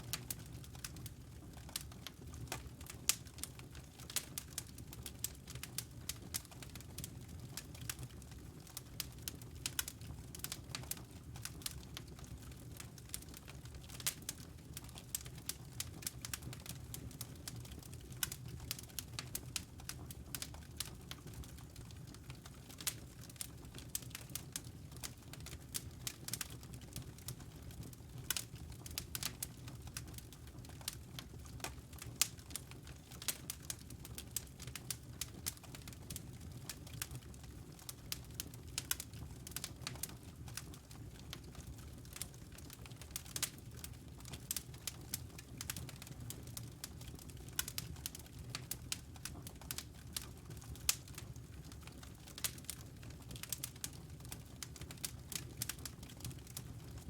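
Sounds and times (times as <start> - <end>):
wood fire crackling and popping: 0.0 - 57.0
low rumble of flames: 0.1 - 57.0.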